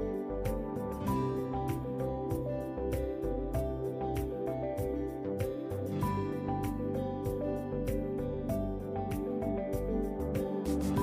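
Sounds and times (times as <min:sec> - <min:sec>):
background music with bass and beat: 0:00.0 - 0:11.0.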